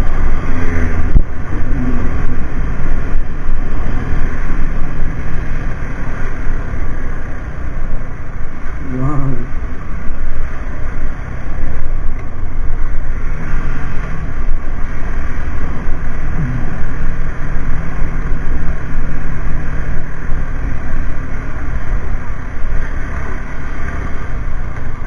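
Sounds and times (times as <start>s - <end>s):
motorcycle engine: 0.0s - 25.0s
wind buffeting microphone: 0.0s - 25.0s.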